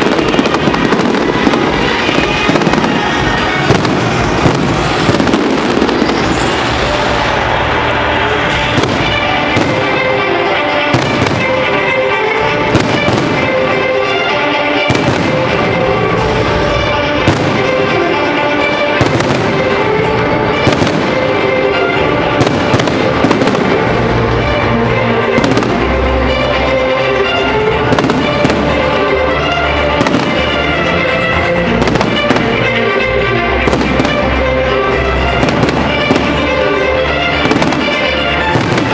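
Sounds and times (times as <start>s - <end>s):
fireworks bangs: 0.0s - 26.8s, 27.7s - 38.9s
music playing: 0.0s - 38.9s.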